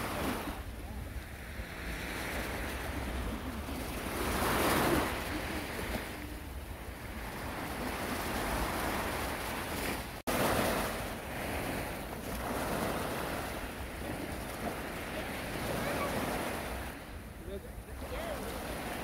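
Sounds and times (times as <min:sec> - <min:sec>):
waves breaking on beach: 0:00.0 - 0:19.0
wind rumbling on microphone: 0:00.0 - 0:19.0.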